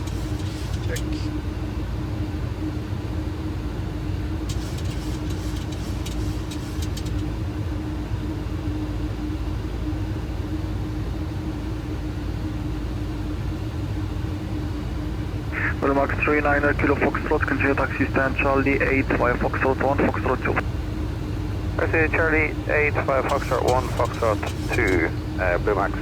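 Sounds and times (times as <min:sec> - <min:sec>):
airflow and engine noise: 0:00.0 - 0:26.0
constant hum: 0:00.0 - 0:26.0.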